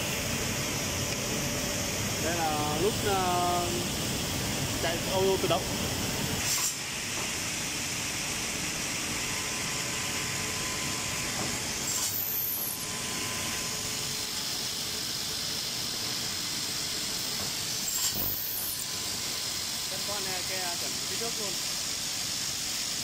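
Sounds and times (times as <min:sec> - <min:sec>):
woodworking machine hiss: 0:00.0 - 0:23.0.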